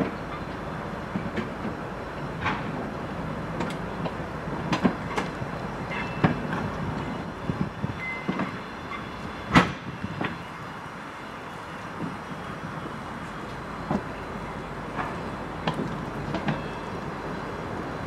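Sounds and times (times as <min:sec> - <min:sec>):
train wheels rumbling over rail joints: 0:00.0 - 0:18.0.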